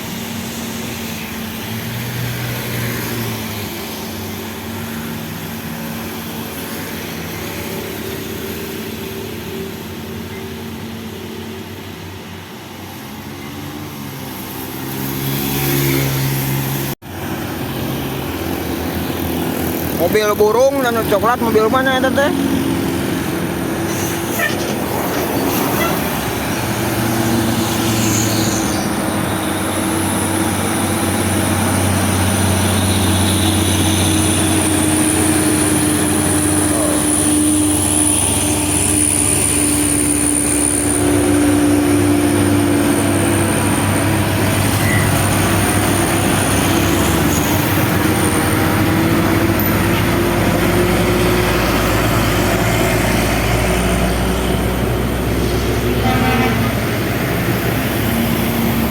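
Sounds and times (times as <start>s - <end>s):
heavy vehicle engines rumbling: 0.0s - 58.9s.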